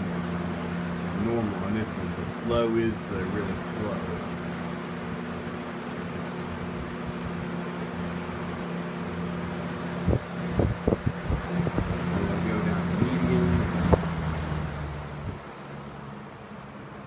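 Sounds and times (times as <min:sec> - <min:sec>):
box fan air rushing: 0:00.0 - 0:17.0
fan motor hum: 0:00.0 - 0:17.0.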